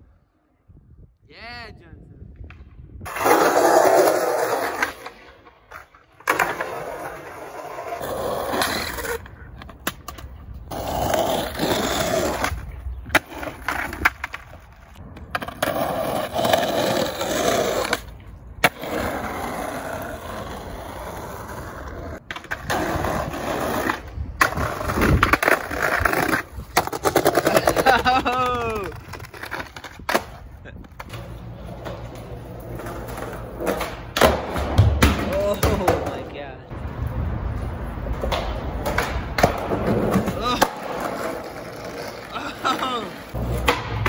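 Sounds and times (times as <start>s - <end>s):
skateboard popping and landing: 2.4s - 36.3s, 37.5s - 44.0s
skateboard wheels rolling on asphalt: 2.4s - 44.0s
skateboard sliding on concrete: 2.5s - 36.1s, 36.7s - 44.0s.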